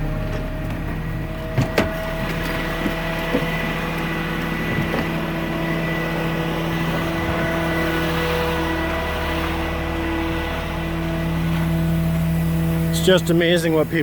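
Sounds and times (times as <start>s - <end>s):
diesel engine running: 0.0s - 14.0s
high steady whine: 0.8s - 14.0s.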